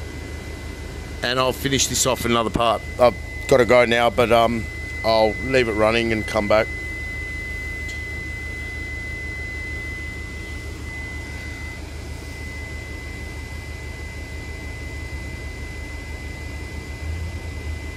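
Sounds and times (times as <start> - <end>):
blower fans rushing air: 0.0 - 17.9
steady high-pitched tone: 0.0 - 17.9.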